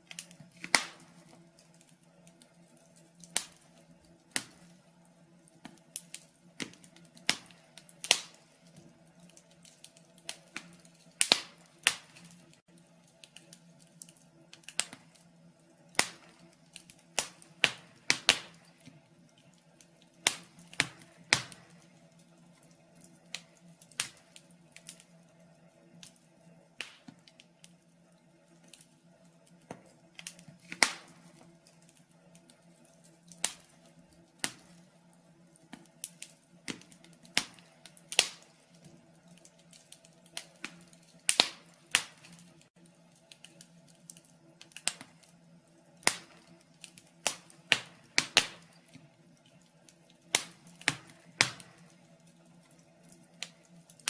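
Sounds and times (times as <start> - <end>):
faint steady hum: 0.0 - 54.0
wood fire crackling: 0.0 - 54.0.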